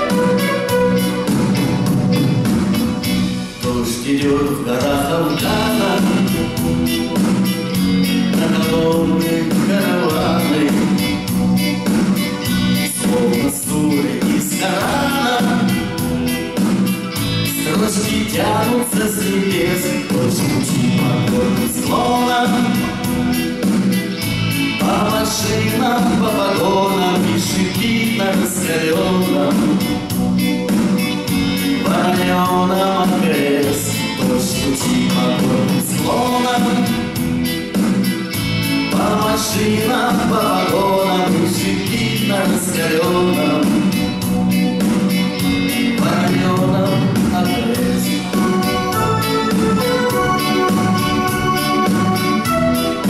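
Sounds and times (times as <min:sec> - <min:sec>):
acoustic and electric guitars: 0:00.0 - 0:53.0
bass guitar: 0:00.0 - 0:53.0
keyboard playing: 0:00.0 - 0:53.0.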